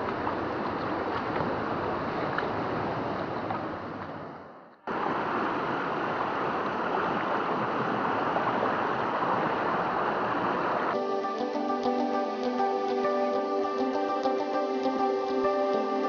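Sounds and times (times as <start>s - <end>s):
flowing water: 0.0s - 16.0s.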